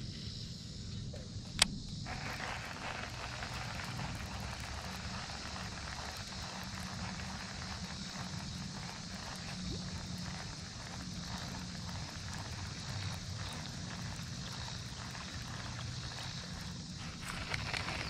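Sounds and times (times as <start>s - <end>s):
outdoor hiss and rumble: 0.0s - 18.0s
fishing reel ticking: 1.6s - 18.0s.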